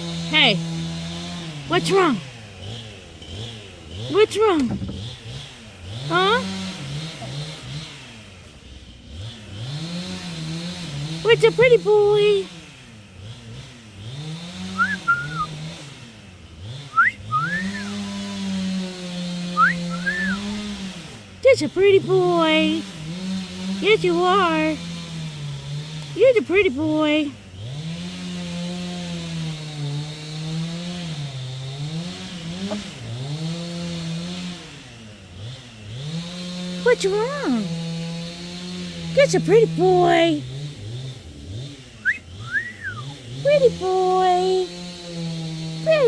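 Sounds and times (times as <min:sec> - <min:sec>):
small engine running: 0:00.0 - 0:46.0.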